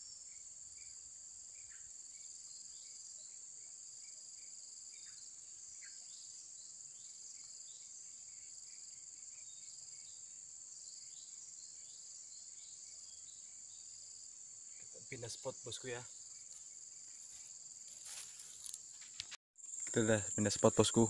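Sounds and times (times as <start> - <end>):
high-pitched insect chorus: 0.0 - 21.0
short insect chirps: 0.0 - 21.0.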